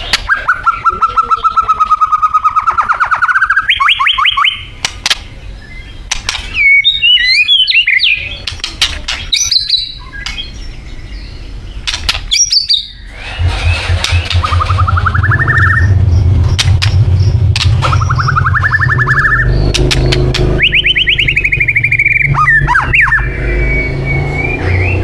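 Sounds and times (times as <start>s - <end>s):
songbird singing: 0.0s - 25.0s.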